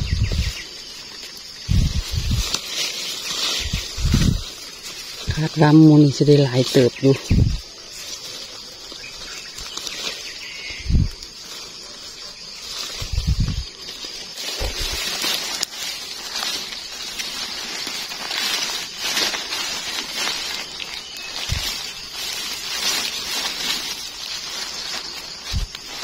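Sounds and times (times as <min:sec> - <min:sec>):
rustling grass and dry leaves: 0:00.0 - 0:26.0
steady high hiss: 0:00.0 - 0:26.0.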